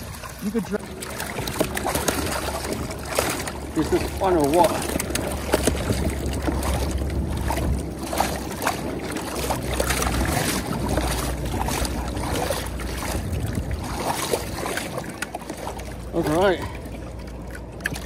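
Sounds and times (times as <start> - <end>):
river current rushing: 0.0 - 16.7
fish splashing: 0.0 - 18.0
water sloshing in plastic tote: 0.0 - 18.0
wind rumble on microphone: 0.0 - 18.0.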